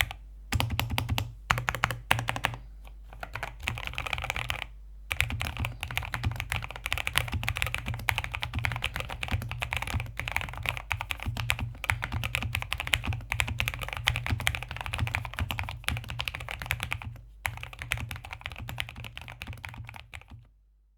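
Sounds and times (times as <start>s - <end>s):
fast typing on mechanical keyboard: 0.0s - 20.5s.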